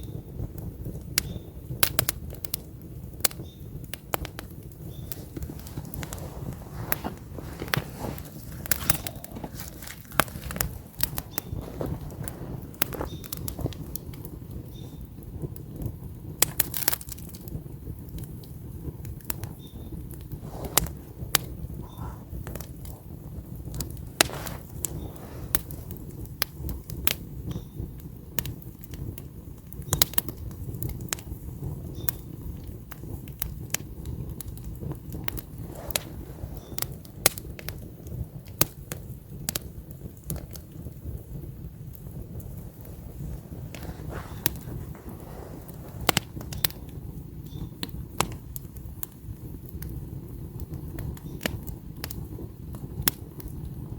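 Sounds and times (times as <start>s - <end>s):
campfire logs crackling: 0.0s - 53.9s
low rumble of flames: 0.0s - 53.9s.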